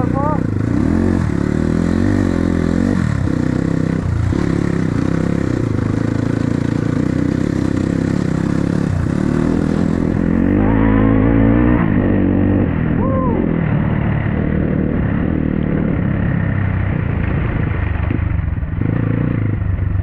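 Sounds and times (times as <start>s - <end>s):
dirt bike engine revving: 0.0s - 18.2s, 18.8s - 19.7s.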